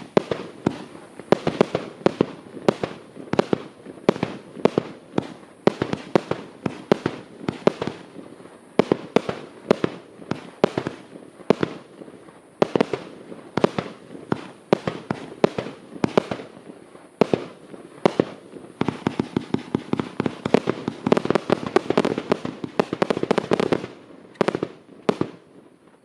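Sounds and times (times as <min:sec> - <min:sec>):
fireworks bursting in sharp bangs: 0:00.0 - 0:26.0.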